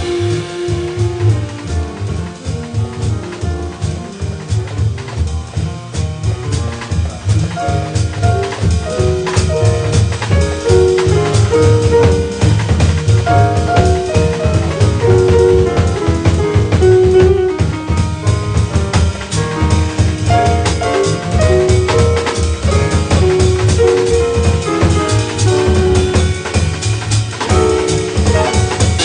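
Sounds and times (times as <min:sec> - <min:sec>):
double bass: 0:00.0 - 0:29.0
drum kit: 0:00.0 - 0:29.0
piano: 0:00.0 - 0:29.0.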